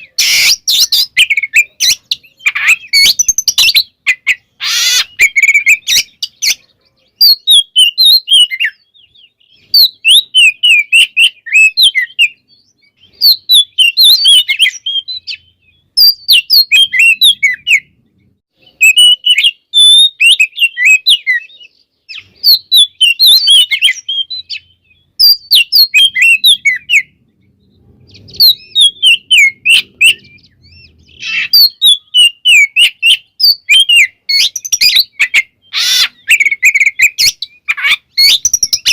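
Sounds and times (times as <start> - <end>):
bird singing whistled notes: 0.0 - 38.9.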